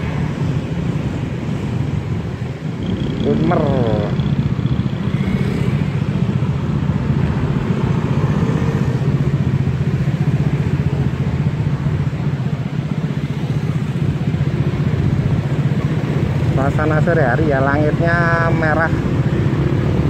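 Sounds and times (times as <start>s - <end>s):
road noise: 0.0s - 20.0s
wind: 0.0s - 20.0s.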